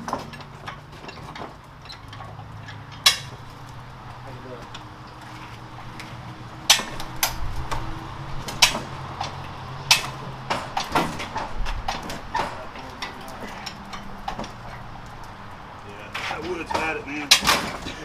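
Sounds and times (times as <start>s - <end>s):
metal knocks and clanks: 0.0s - 15.1s, 16.1s - 18.0s.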